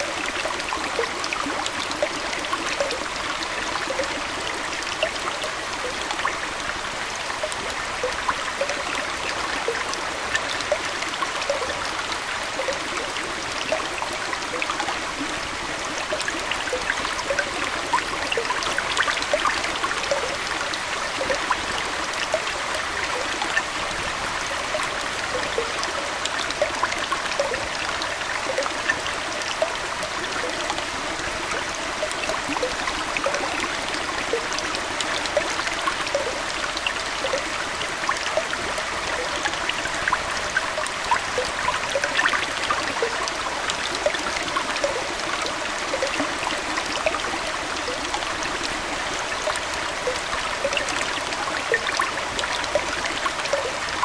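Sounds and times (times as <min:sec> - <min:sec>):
aquarium water trickling: 0:00.0 - 0:54.0
bubbles plinking: 0:07.4 - 0:54.0.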